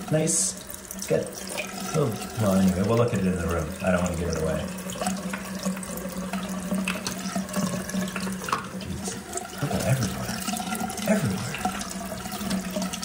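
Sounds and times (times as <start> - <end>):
tap water splashing: 0.0 - 13.0.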